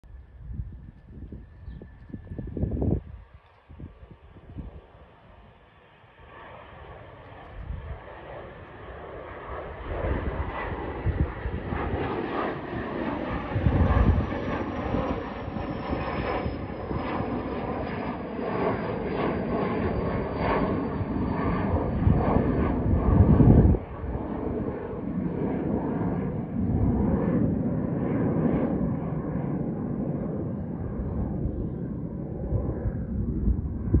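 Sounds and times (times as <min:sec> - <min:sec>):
jet engines rumbling with whine: 0:00.1 - 0:34.0.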